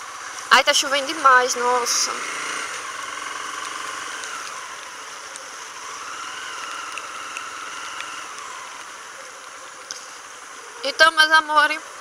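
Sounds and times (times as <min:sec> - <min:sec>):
heavy rain hissing: 0:00.0 - 0:12.0
motorcycle engine running: 0:00.0 - 0:12.0.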